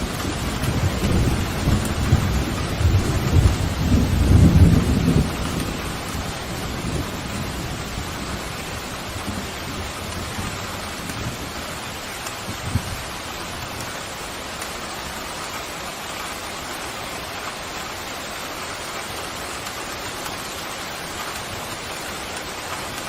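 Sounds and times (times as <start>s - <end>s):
pouring rain: 0.0s - 23.0s.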